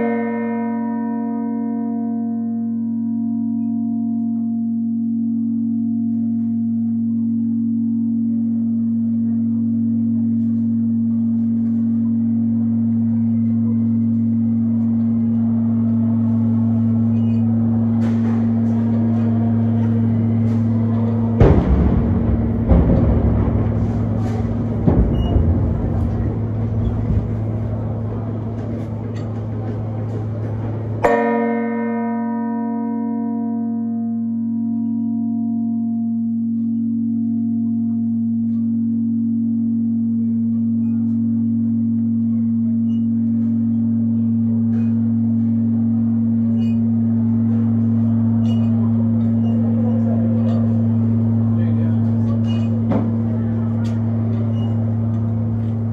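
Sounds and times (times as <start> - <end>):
church bells ringing: 0.0 - 55.9
steady low hum: 3.0 - 31.4, 33.9 - 55.9.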